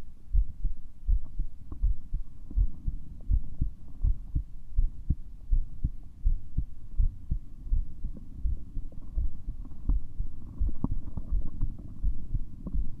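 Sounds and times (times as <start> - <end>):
low murmur noise: 0.0 - 13.0
heartbeat through stethoscope: 0.3 - 13.0.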